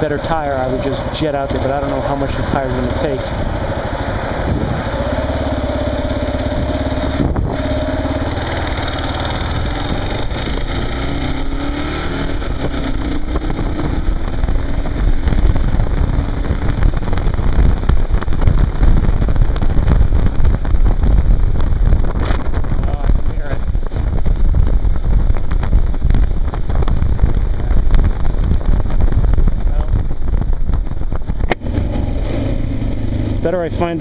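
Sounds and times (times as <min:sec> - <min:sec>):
motorcycle engine accelerating: 0:00.0 - 0:34.0
wind rumble on microphone: 0:00.0 - 0:34.0.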